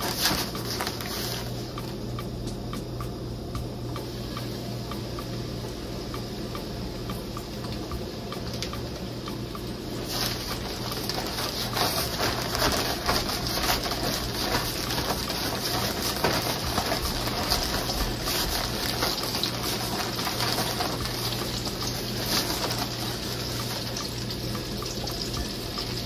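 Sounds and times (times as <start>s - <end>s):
hot oil sizzling and crackling: 4.0s - 26.0s.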